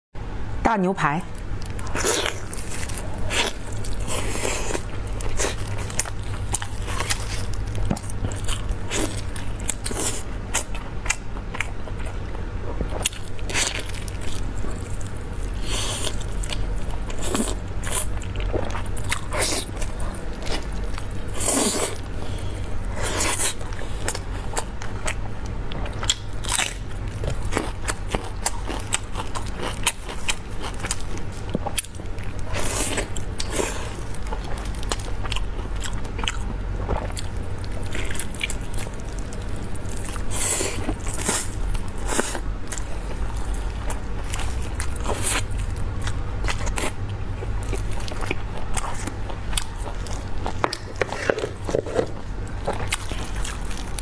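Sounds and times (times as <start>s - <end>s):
steady low hum: 0.2s - 54.0s
person chewing with mouth sounds: 1.4s - 54.0s.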